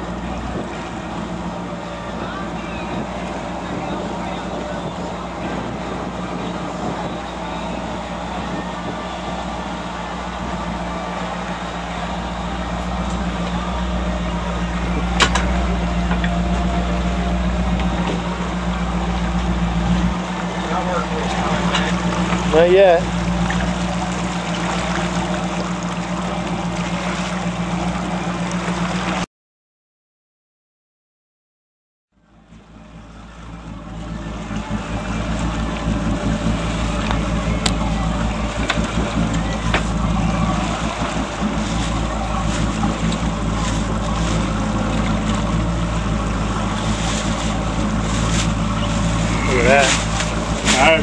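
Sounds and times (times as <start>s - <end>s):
boat engine droning: 0.0s - 29.3s, 32.2s - 51.0s
water wash: 0.0s - 29.3s, 32.4s - 51.0s
wind: 0.0s - 29.3s, 32.1s - 51.0s.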